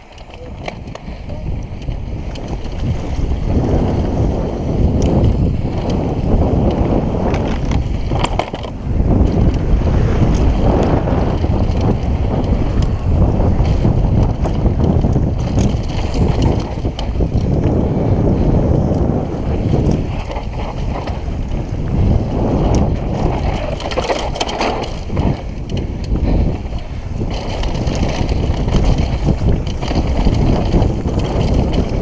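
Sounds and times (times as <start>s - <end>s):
bike clattering over dirt trail: 0.0s - 32.0s
wind rushing over microphone: 0.0s - 32.0s.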